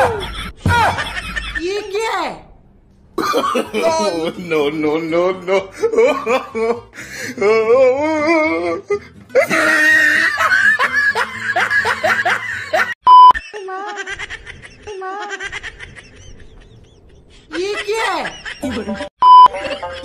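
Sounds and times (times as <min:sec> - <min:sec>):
people laughing: 0:00.0 - 0:01.8, 0:03.2 - 0:20.0.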